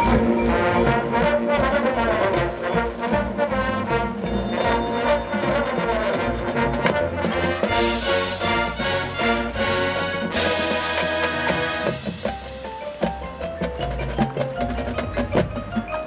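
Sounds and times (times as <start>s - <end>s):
marching band brass music: 0.0s - 15.8s.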